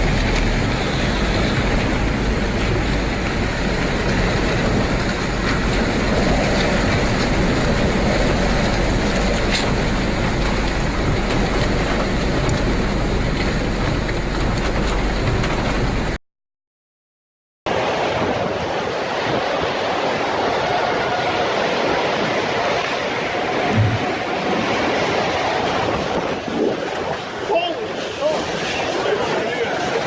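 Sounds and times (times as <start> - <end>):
storm wind and rain roaring: 0.0 - 16.2, 17.7 - 30.0.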